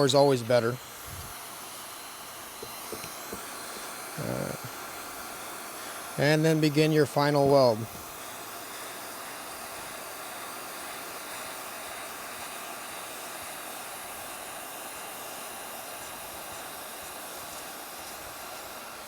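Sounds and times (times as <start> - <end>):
hot-air welding gun hissing: 0.0 - 19.0.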